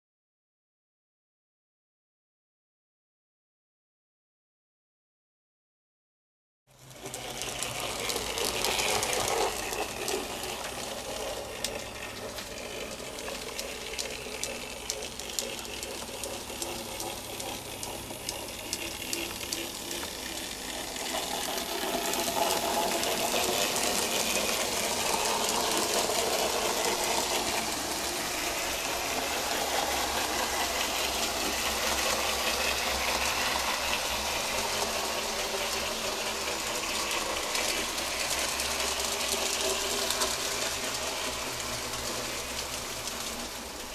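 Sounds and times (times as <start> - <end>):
wheels rattling on track: 6.8 - 43.9
small electric motor whirring: 6.9 - 43.8.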